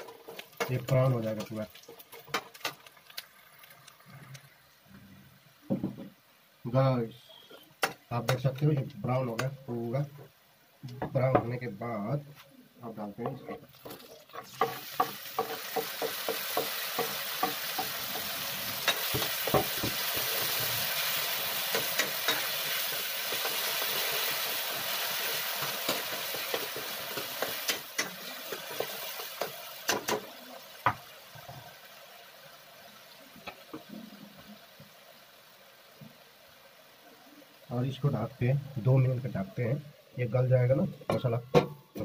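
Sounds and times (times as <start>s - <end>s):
tomatoes sizzling in hot oil: 0.0s - 12.2s, 12.8s - 42.0s.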